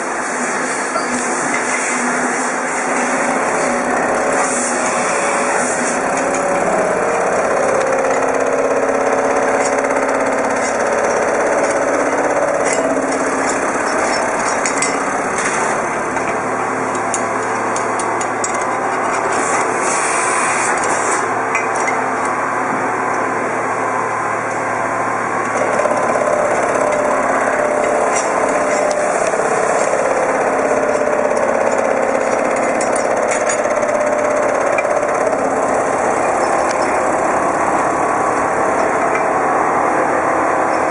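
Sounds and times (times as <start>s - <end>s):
lathe running with whine: 0.0s - 40.9s.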